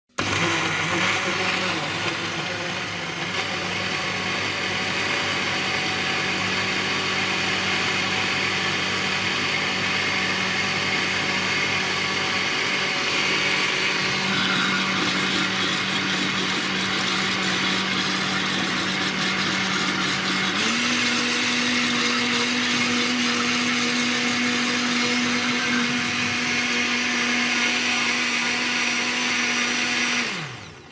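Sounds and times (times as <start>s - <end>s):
blender motor whine: 0.1s - 30.9s.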